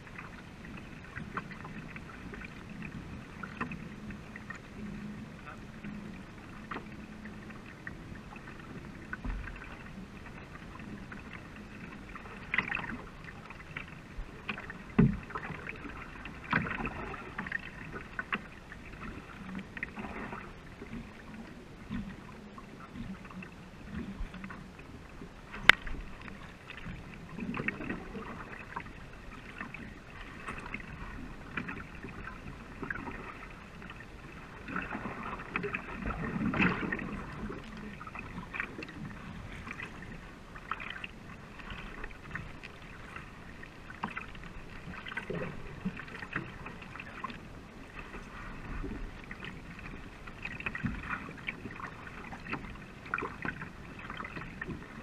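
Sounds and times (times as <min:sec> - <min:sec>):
paddles splashing water: 0:00.0 - 0:55.0
water running along hull: 0:00.0 - 0:55.0.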